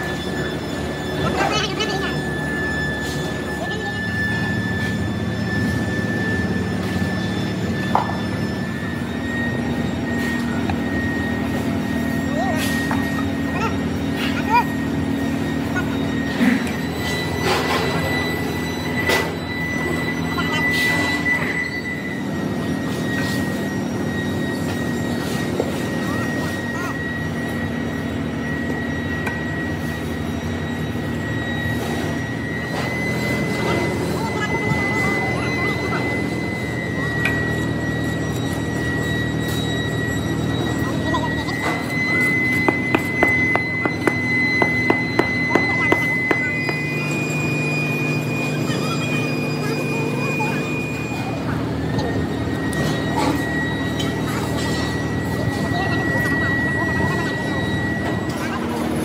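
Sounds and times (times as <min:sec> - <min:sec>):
high whine: 0:00.0 - 0:59.0
machinery drone: 0:00.0 - 0:59.0.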